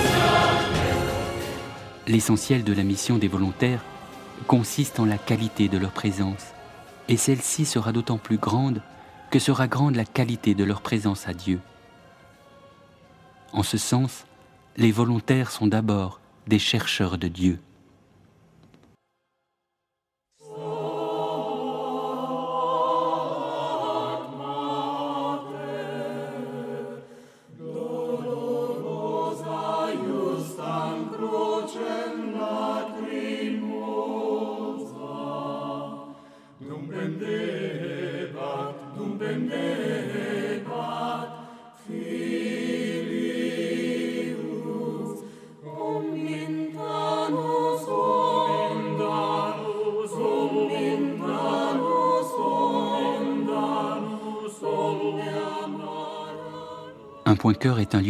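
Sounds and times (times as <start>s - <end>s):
choir singing a chant: 0.0s - 16.8s, 20.4s - 58.0s.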